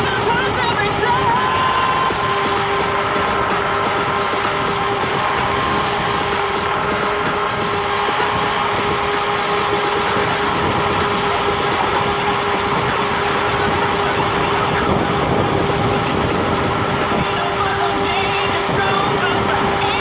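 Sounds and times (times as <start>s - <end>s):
electric scooter whine: 0.0s - 20.0s
wind and road rush: 0.0s - 20.0s.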